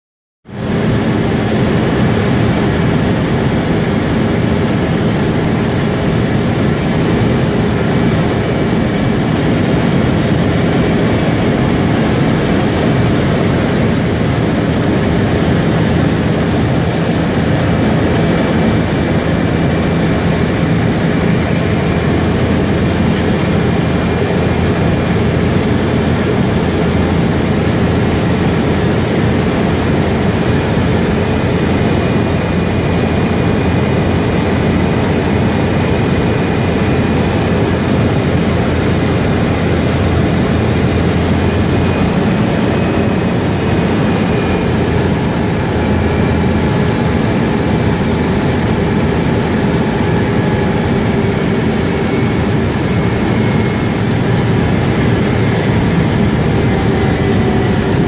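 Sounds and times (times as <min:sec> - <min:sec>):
plane engine and propeller drone: 0:00.4 - 0:58.0.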